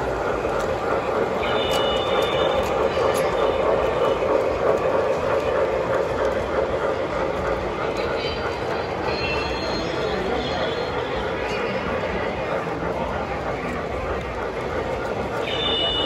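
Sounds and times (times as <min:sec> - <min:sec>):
model train rolling: 0:00.0 - 0:16.0.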